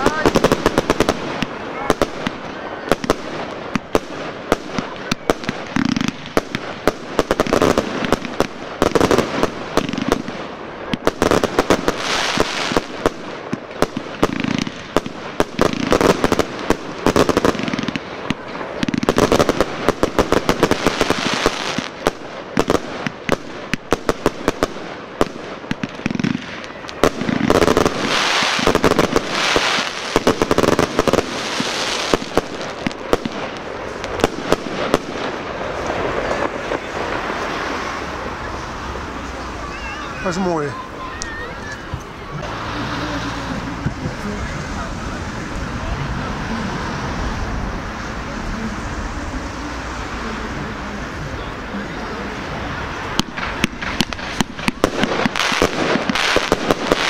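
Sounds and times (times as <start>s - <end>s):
crackling firework bursts: 0.0s - 57.0s
fireworks banging: 0.0s - 57.0s.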